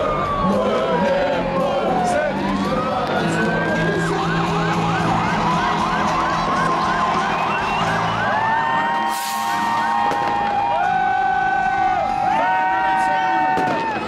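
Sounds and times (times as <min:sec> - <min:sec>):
sirens yelping and wailing: 0:00.0 - 0:14.0.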